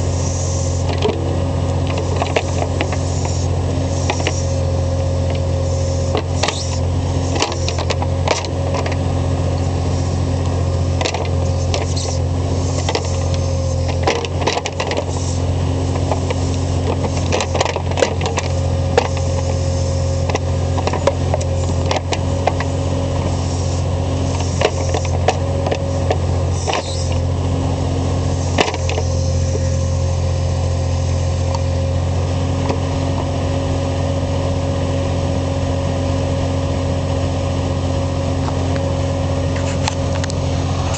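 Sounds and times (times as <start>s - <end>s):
loader engine droning: 0.0s - 40.9s.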